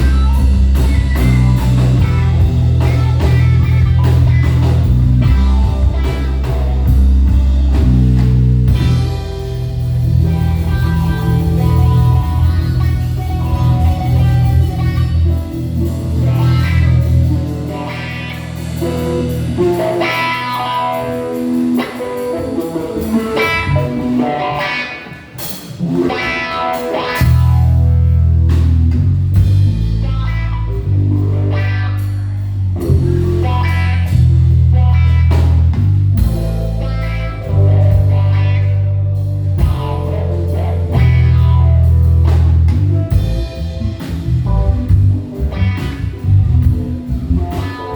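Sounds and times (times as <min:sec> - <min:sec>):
bass guitar: 0:00.0 - 0:47.9
drum kit: 0:00.0 - 0:47.9
electric guitar lines: 0:00.0 - 0:47.9.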